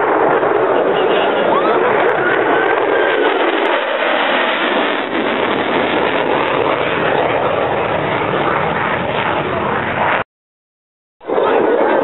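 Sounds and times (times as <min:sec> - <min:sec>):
fighter jet flying past: 0:00.0 - 0:10.3, 0:11.2 - 0:12.0.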